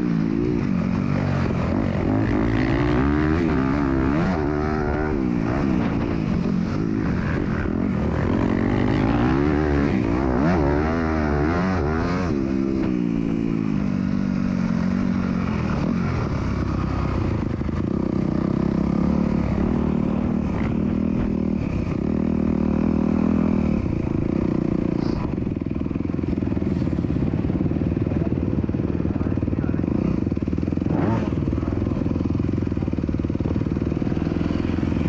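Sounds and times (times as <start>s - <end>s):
motocross bike engine revving: 0.0s - 25.6s, 26.2s - 35.0s.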